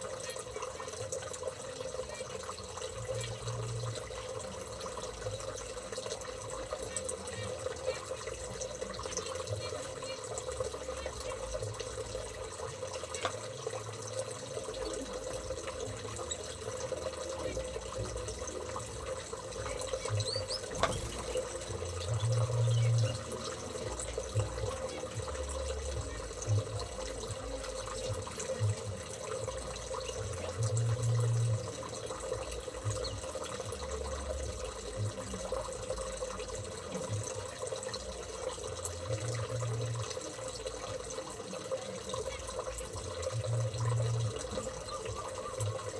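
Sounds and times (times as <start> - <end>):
running water: 0.0 - 45.9.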